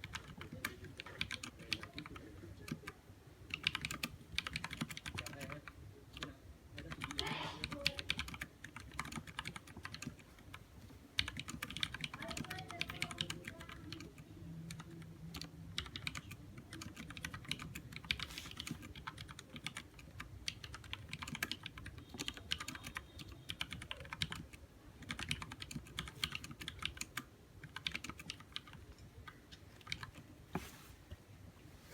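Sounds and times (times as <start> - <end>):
mechanical keyboard typing: 0.0 - 10.6, 11.2 - 30.3.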